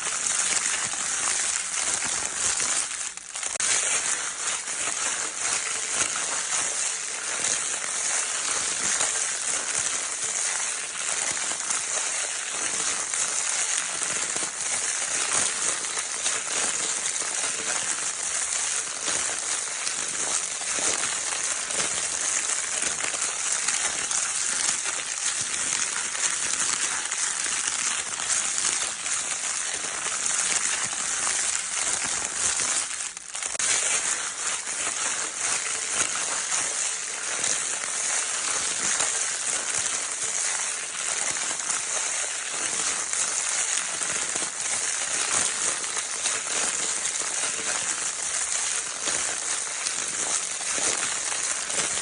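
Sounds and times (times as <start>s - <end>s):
crinkle paper rustling: 0.0s - 52.0s.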